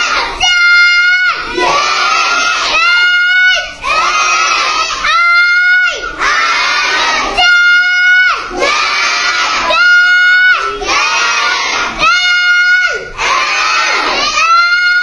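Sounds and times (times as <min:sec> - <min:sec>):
children chanting in sing-song: 0:00.0 - 0:15.0.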